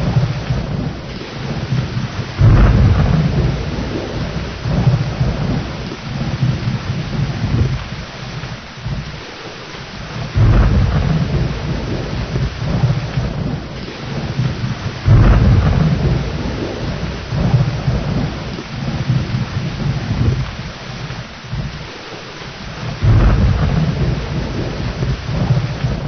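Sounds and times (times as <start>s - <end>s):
deep rolling thunder: 0.0s - 9.3s, 10.0s - 22.0s, 22.6s - 26.0s
heavy rain: 0.0s - 26.0s
loud thunderclaps: 0.0s - 26.0s.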